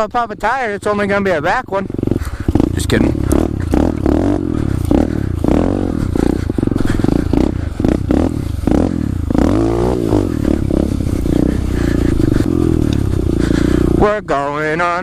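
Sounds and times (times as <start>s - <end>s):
motorbike engine revving: 0.9s - 15.0s.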